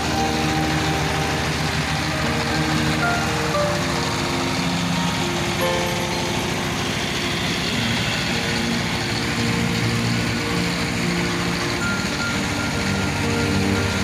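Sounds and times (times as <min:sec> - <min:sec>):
diesel engine running steadily: 0:00.0 - 0:14.0.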